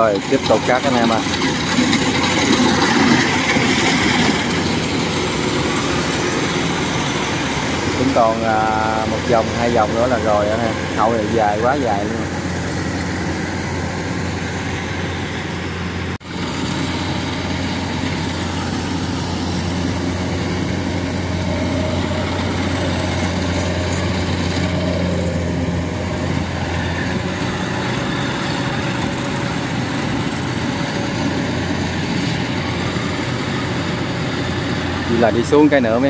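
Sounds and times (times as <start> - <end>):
combine harvester drone: 0.0 - 36.0.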